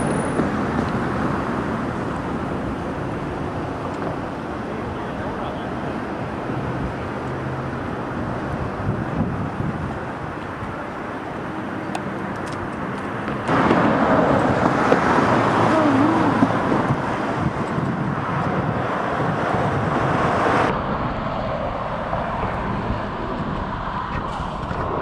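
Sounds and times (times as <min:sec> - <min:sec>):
road traffic noise: 0:00.0 - 0:25.0
wind on microphone: 0:00.0 - 0:25.0.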